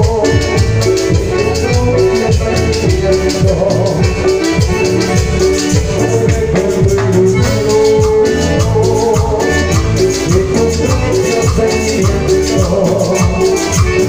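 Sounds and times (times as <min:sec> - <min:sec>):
button accordion: 0:00.0 - 0:14.0
electric bass: 0:00.0 - 0:14.0
fast percussion rhythm: 0:00.0 - 0:14.0
keyboard: 0:00.0 - 0:14.0.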